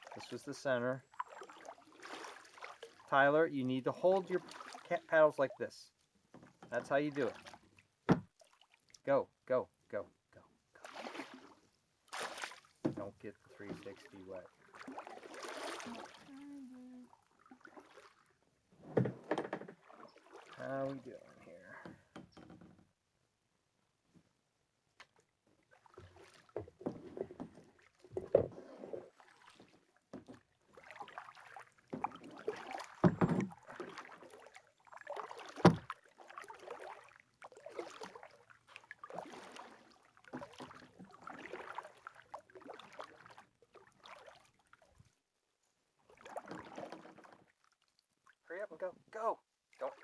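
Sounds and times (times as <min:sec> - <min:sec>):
paddle splashing through water: 0:00.0 - 0:05.6, 0:06.4 - 0:09.1, 0:10.8 - 0:22.1, 0:25.1 - 0:45.2, 0:46.0 - 0:48.4, 0:49.6 - 0:50.0.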